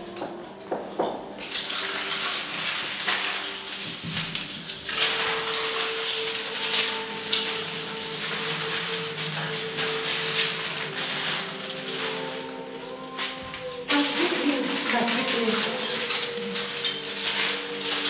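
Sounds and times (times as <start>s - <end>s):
paper crumpling: 0.9s - 18.0s.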